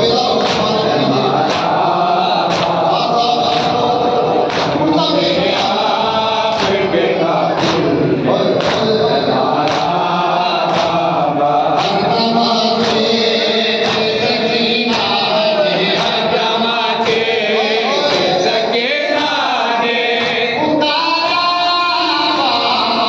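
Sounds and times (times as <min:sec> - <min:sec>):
lead reciter chanting: 0:00.0 - 0:23.0
men chanting a lament: 0:00.0 - 0:23.0.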